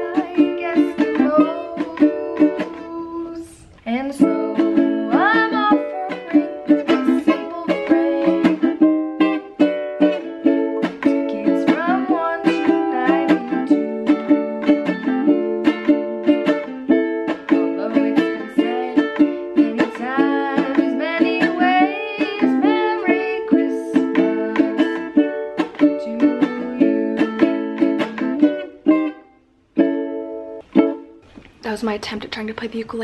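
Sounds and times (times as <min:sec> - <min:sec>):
girl singing: 0:00.0 - 0:29.2
ukulele strumming: 0:00.0 - 0:31.5.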